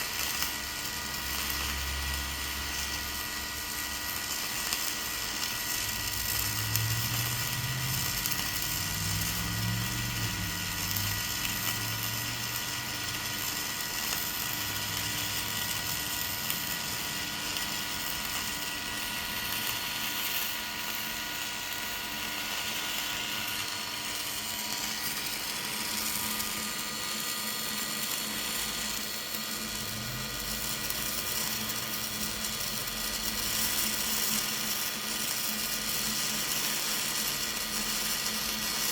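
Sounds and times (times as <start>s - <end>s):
welding arc crackling: 0.0s - 38.9s.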